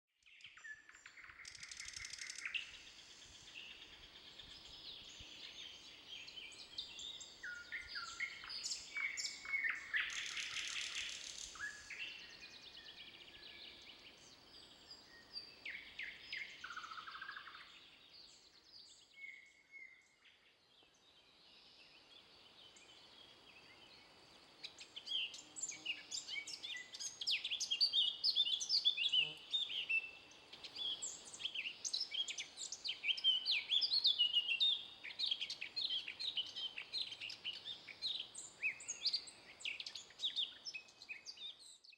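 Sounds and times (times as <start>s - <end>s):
songbirds singing: 0.2s - 41.9s.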